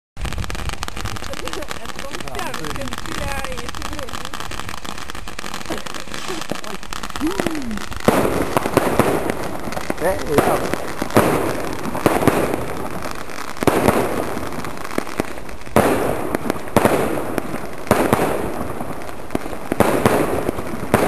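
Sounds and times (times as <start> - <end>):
fireworks bangs: 0.2 - 21.0
fireworks crackle and hiss: 0.2 - 21.0.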